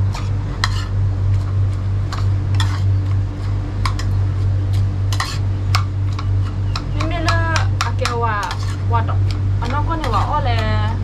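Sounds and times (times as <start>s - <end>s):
loud steady low hum: 0.0s - 11.0s.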